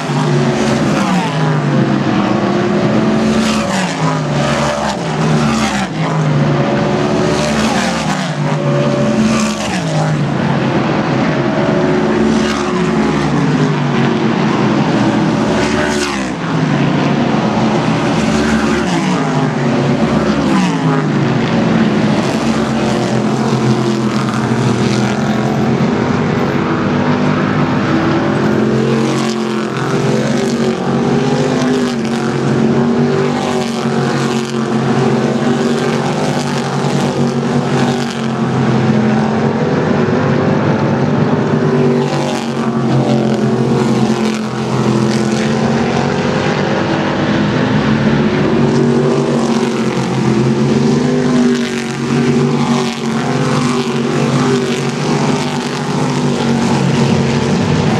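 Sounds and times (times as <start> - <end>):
racing car engines at speed: 0.0 - 57.9.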